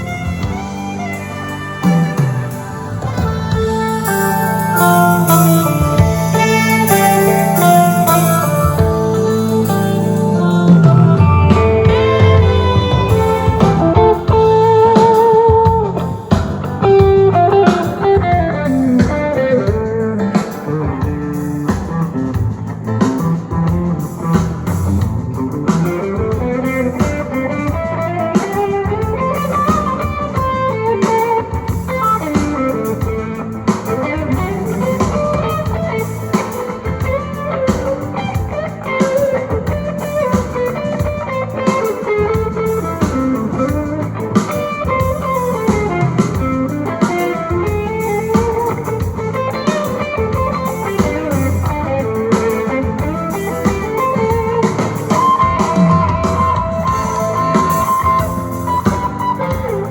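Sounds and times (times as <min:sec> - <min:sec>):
blues-rock music over speakers: 0:00.0 - 0:59.9
lead electric guitar runs: 0:00.0 - 0:59.9.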